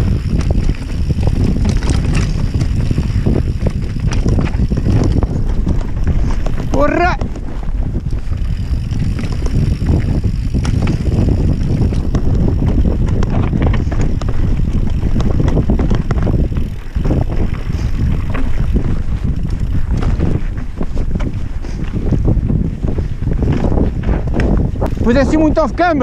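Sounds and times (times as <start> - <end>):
tyres rumbling over rock: 0.0 - 21.4
bike knocking and rattling: 0.0 - 26.0
wind buffeting microphone: 0.0 - 26.0.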